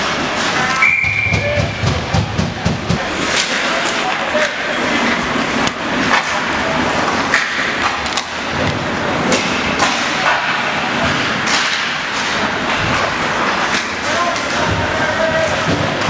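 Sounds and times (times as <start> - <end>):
voices in rink: 0.0 - 16.0
hockey sticks clacking puck: 3.0 - 16.0
skates rushing on ice: 3.0 - 16.0.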